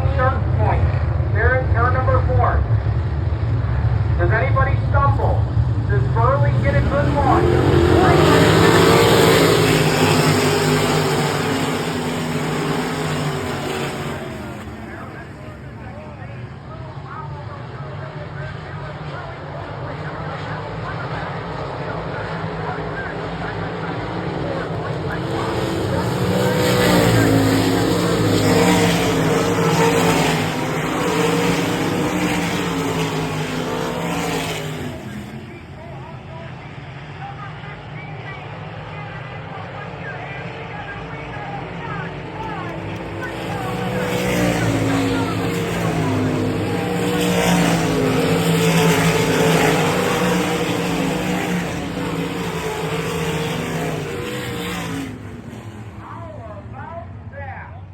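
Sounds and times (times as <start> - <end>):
race car engines racing: 0.0 - 57.9.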